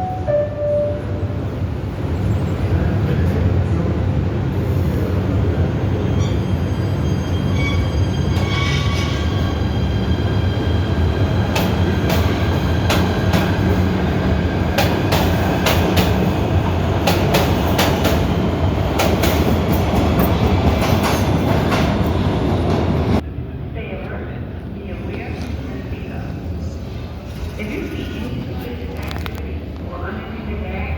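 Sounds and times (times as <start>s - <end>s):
train rumbling: 0.0s - 30.9s.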